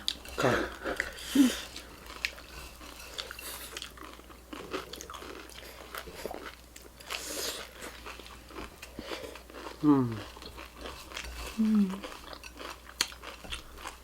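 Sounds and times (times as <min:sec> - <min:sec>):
chewing crunchy food: 0:00.0 - 0:14.0.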